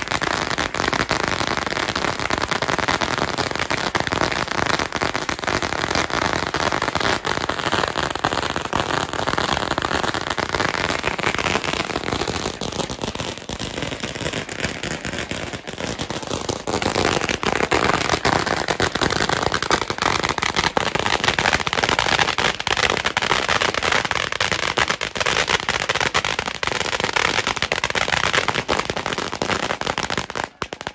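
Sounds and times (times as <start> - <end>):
firecrackers going off: 0.0 - 30.9.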